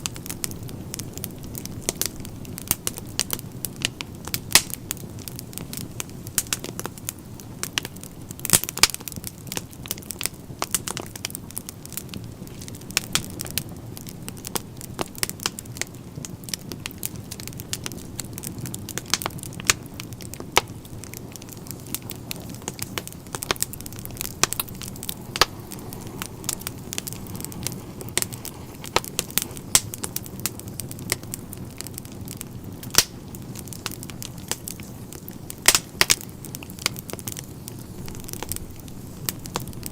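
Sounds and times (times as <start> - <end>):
rush of flames: 0.0 - 39.9
wood crackling and popping: 0.0 - 39.9.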